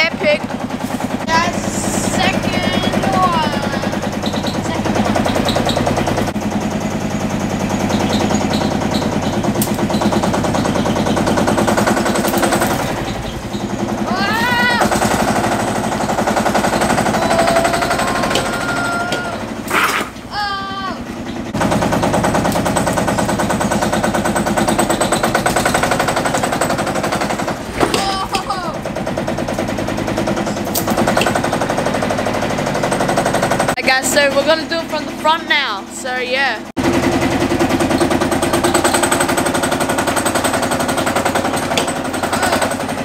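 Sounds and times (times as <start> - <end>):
tractor engine knocking: 0.0 - 20.3, 21.0 - 43.0.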